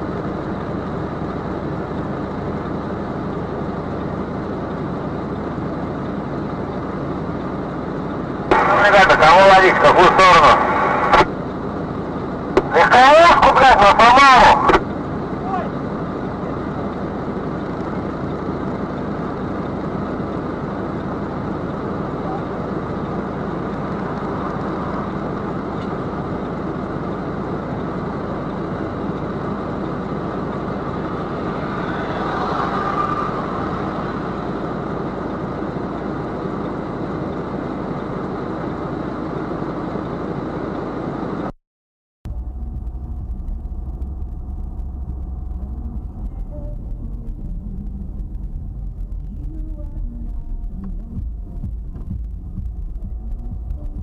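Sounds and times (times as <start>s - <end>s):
car road and engine noise: 0.0s - 41.6s, 42.2s - 54.0s.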